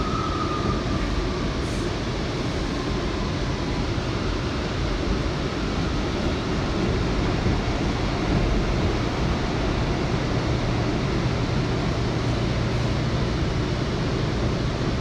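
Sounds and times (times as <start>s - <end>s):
subway car low hum: 0.0s - 15.0s.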